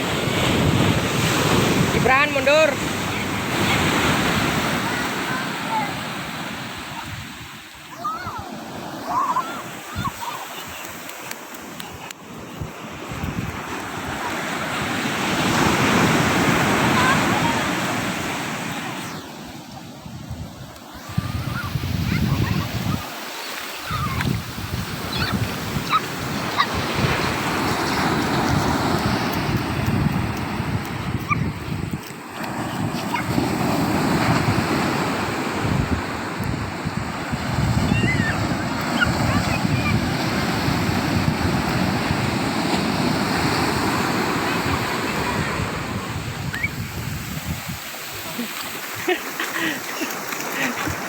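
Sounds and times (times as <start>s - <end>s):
wind buffeting microphone: 0.0s - 5.0s, 11.8s - 19.2s, 19.8s - 23.1s, 23.8s - 49.7s
ocean surf washing up beach: 0.0s - 51.0s.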